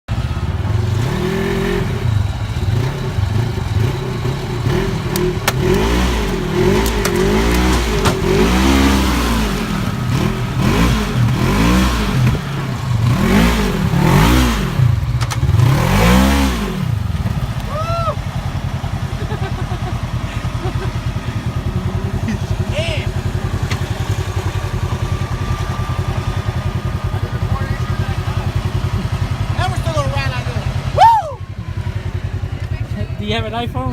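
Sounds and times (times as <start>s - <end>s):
vehicle engine revving: 0.1s - 33.9s.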